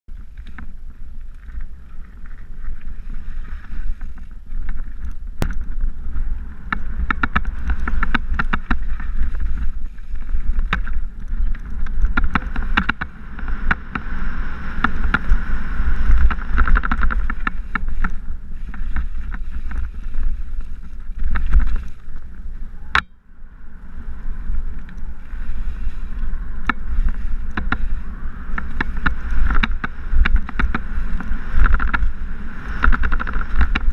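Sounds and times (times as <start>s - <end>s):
bike rattling over bumps: 0.1s - 33.9s
tyres rumbling on dirt: 0.1s - 33.9s
wind buffeting microphone: 0.1s - 33.9s.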